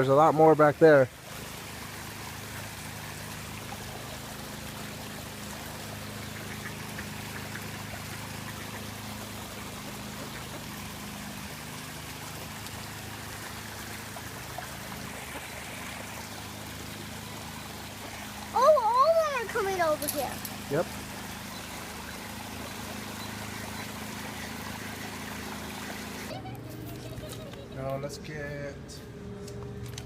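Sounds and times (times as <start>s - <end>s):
running water: 0.0s - 28.2s.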